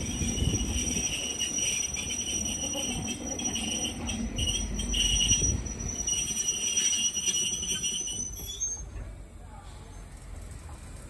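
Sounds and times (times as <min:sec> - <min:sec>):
train wheels squealing: 0:00.0 - 0:09.1
train low rumble: 0:00.0 - 0:11.0.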